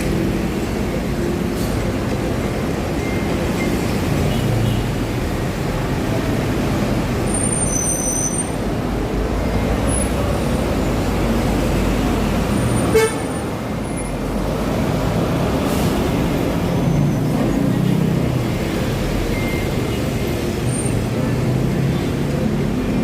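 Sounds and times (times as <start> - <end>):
city road traffic rumble: 0.0 - 23.0.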